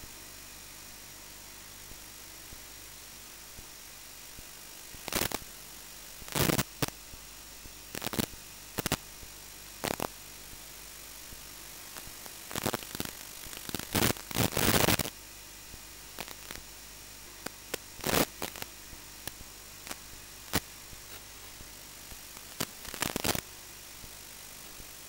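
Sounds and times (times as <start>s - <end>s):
loud crackling static bursts: 0.0s - 25.0s
steady static hiss: 0.0s - 25.0s.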